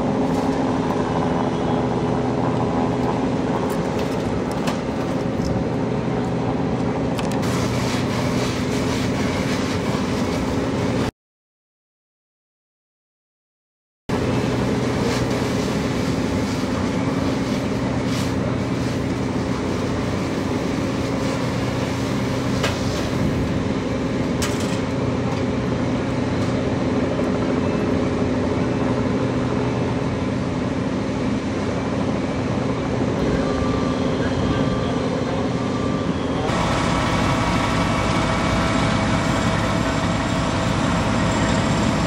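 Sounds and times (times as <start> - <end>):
diesel engine droning: 0.0 - 11.1, 14.1 - 42.0.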